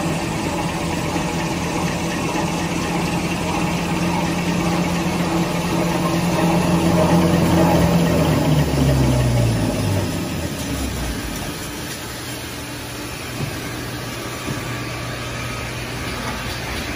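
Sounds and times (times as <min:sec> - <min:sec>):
machine hum with low drone: 0:00.0 - 0:16.9.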